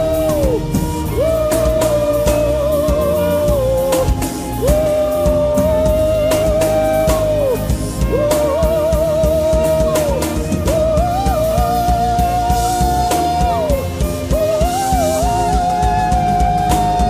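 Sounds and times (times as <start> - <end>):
gospel worship music: 0.0 - 17.0.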